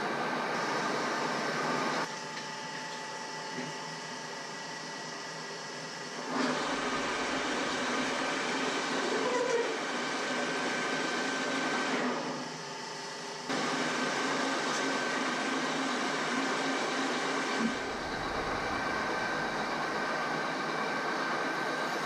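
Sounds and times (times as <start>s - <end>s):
metal lathe whining: 0.0s - 22.0s.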